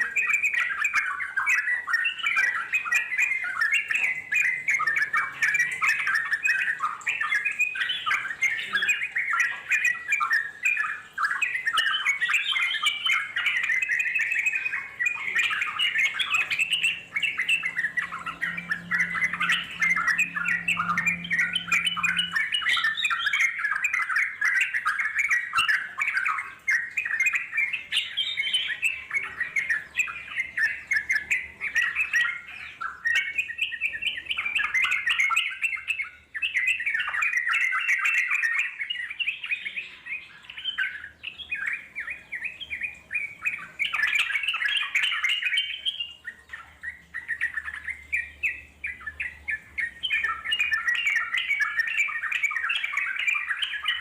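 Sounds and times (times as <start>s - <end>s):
bulbuls chattering and singing: 0.0s - 54.0s.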